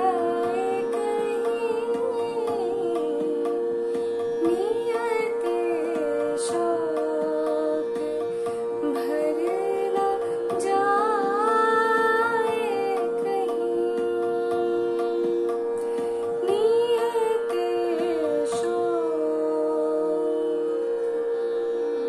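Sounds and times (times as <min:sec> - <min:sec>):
woman singing: 0:00.0 - 0:21.4.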